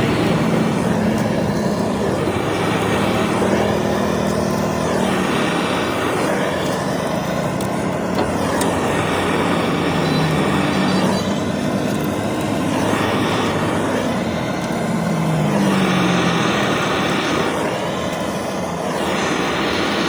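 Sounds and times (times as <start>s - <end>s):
mechanical noise with low hum: 0.0s - 20.0s.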